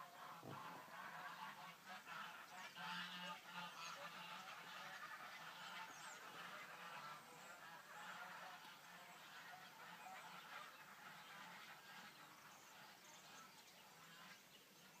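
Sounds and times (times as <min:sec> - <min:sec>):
geese honking: 0:00.0 - 0:14.4.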